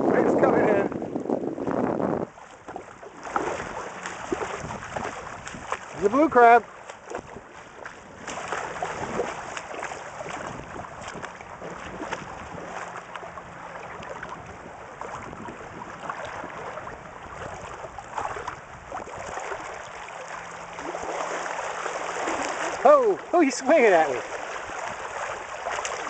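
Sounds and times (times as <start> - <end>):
water lapping and sloshing: 0.0 - 26.0
small splashes and clicks: 2.4 - 15.4, 16.0 - 26.0.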